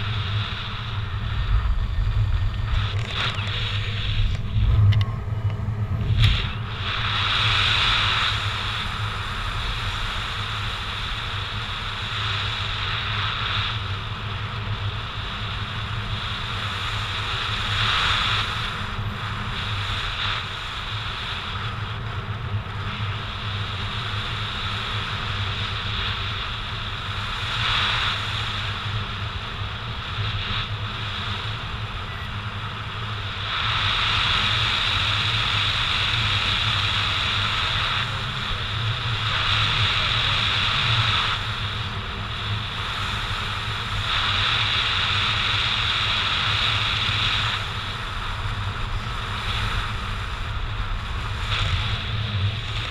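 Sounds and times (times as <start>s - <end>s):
wind noise on camera: 0.0s - 52.9s.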